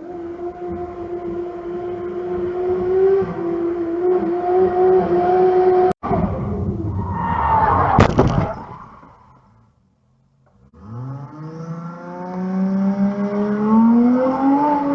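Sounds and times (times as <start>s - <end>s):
vehicle engine droning: 0.0s - 7.9s, 9.0s - 14.9s.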